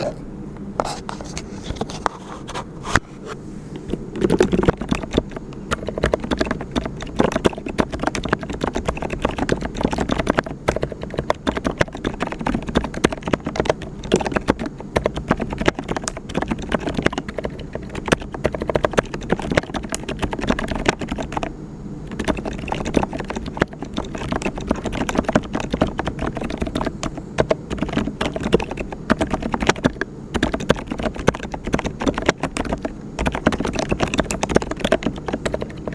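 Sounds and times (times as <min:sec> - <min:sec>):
mechanical keyboard typing: 0:03.9 - 0:21.5, 0:22.1 - 0:35.9.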